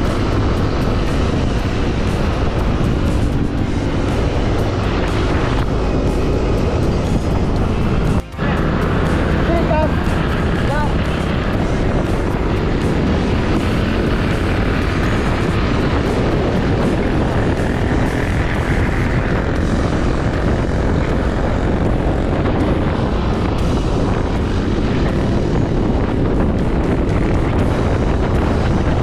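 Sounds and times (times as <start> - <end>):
vehicle engine drone: 0.0 - 29.0
wind rushing over microphone: 0.0 - 29.0.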